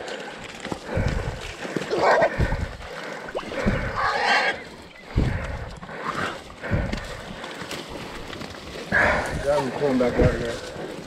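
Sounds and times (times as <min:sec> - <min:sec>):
dogs and boar scuffling: 0:00.0 - 0:11.0.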